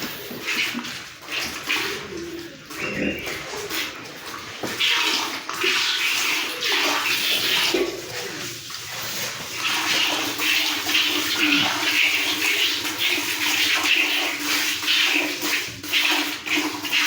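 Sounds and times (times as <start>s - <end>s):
milk squirting into a pail: 0.0s - 17.0s.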